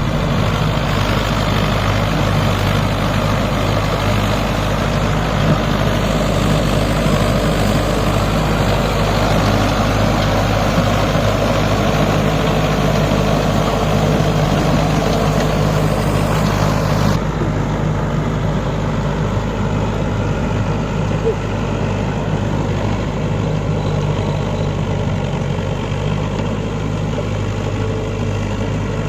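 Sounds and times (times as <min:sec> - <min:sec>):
tractor diesel engine droning: 0:00.0 - 0:29.0.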